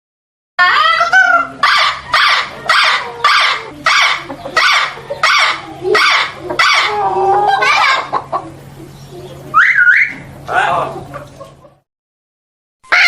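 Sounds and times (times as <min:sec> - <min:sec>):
parrot squawking: 0:00.6 - 0:11.4.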